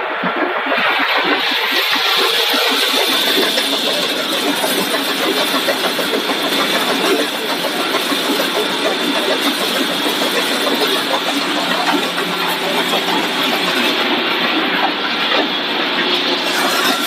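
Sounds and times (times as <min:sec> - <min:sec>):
dense machine noise: 0:00.0 - 0:17.0.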